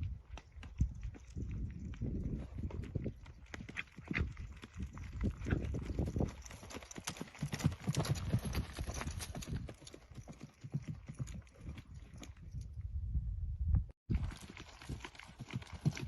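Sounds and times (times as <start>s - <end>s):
horse hoofbeats clip-clopping: 0.0s - 12.8s, 14.1s - 16.0s.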